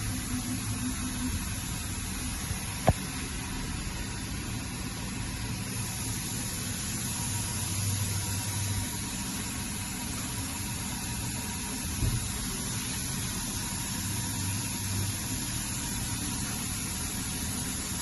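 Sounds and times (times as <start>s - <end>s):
machining center hiss and hum: 0.0s - 18.0s.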